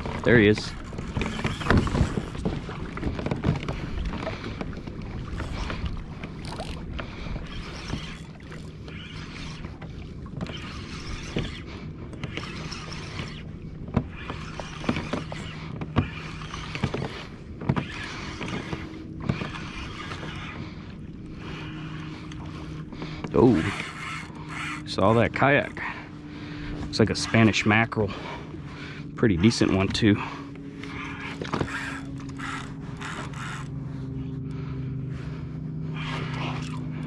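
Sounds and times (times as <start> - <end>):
water slapping against kayak hull: 0.0 - 25.0, 29.5 - 35.4.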